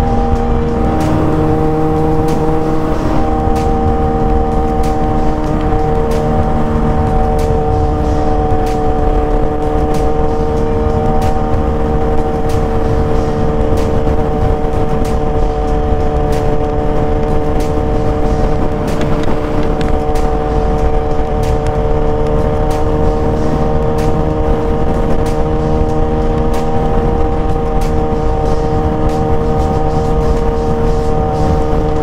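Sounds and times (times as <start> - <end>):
motorcycle engine whine: 0.0 - 32.0
wind and road noise: 0.0 - 32.0.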